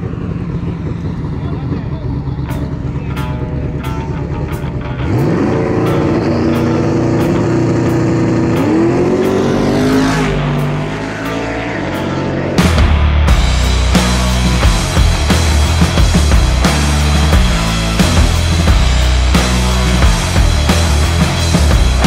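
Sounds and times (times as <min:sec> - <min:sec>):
drag car engine revving: 0:00.0 - 0:22.0.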